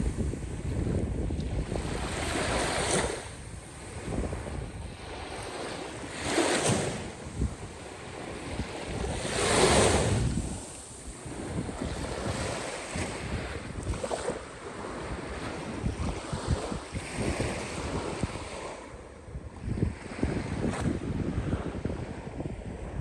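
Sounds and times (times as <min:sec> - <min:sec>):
sea waves washing onto shore: 0:00.0 - 0:19.2
wind buffeting microphone: 0:00.0 - 0:23.0.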